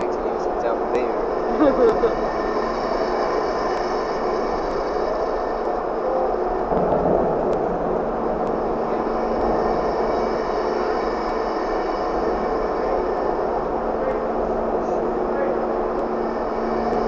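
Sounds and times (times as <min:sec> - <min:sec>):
rotating dome mechanical rumble: 0:00.0 - 0:17.0.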